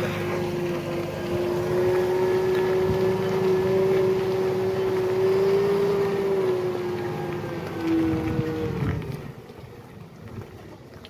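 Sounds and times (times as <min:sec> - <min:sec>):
truck engines droning: 0:00.0 - 0:10.9.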